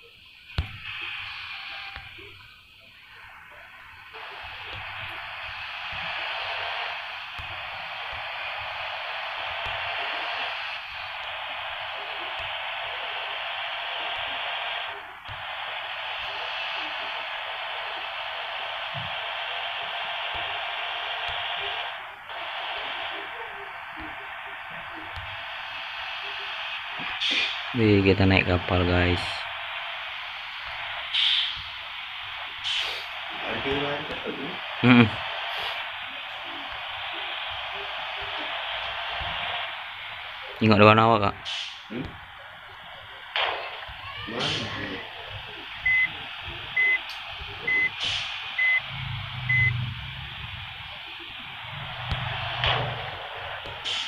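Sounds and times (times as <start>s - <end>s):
faint indistinct murmurs: 0.0s - 54.0s
loud static-like hiss: 0.0s - 54.0s.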